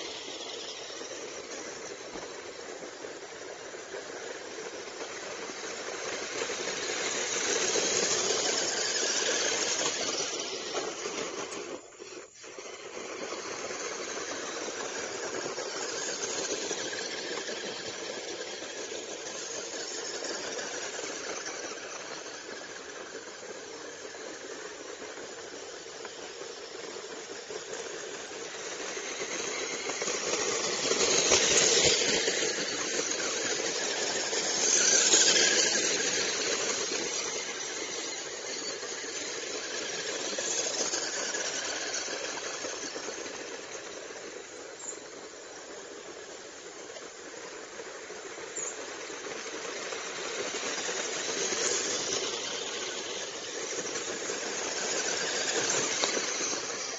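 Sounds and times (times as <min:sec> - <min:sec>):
small electric motors whining: 0:00.0 - 0:56.9
stones hissing under tyres: 0:00.0 - 0:56.9.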